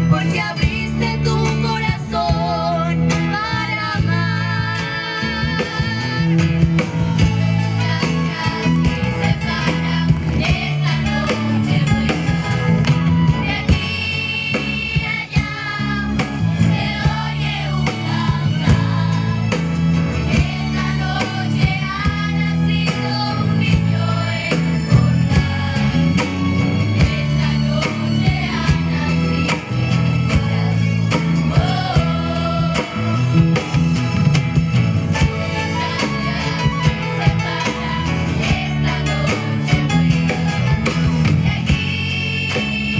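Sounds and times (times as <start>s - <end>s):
live singing with band: 0.0s - 42.9s.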